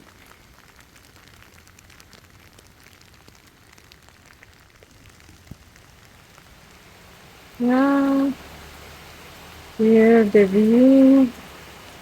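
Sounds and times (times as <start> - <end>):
single raindrops ticking: 0.0 - 12.0
steady rain falling: 0.0 - 12.0.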